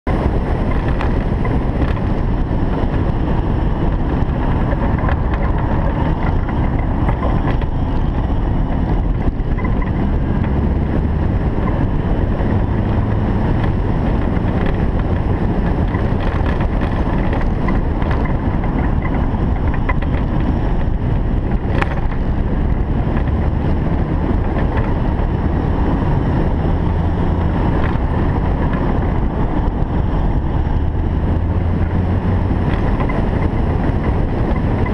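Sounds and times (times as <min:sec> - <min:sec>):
car engine running: 0:00.0 - 0:34.9
wind noise on microphone: 0:00.0 - 0:34.9.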